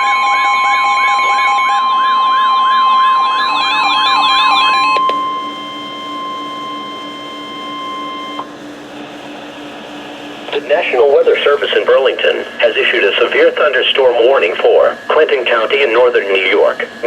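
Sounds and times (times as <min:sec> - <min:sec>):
rapidly sweeping electronic alarm: 0:00.0 - 0:08.8, 0:09.6 - 0:17.0
steady warning alarm tone: 0:00.0 - 0:17.0.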